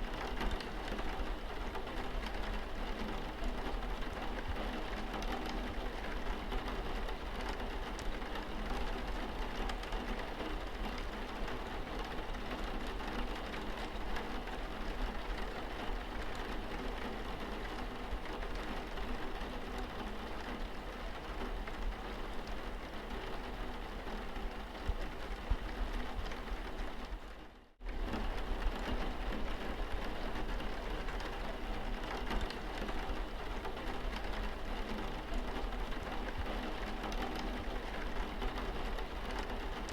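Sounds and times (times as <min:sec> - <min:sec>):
rain pattering on windscreen: 0:00.0 - 0:39.9.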